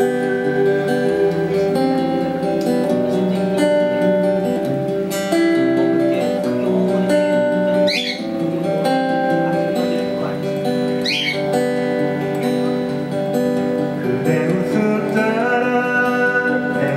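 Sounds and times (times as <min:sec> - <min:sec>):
acoustic guitar ballad: 0:00.0 - 0:16.9.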